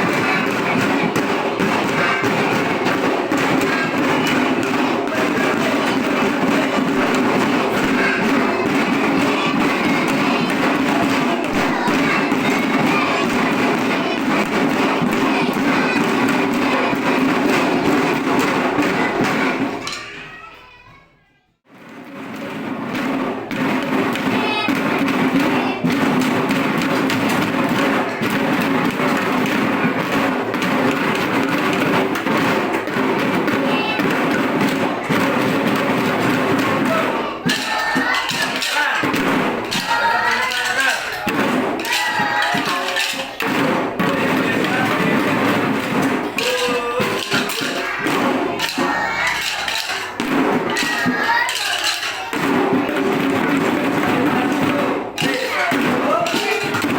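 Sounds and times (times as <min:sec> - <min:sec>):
children's drum band beating: 0:00.0 - 0:56.9.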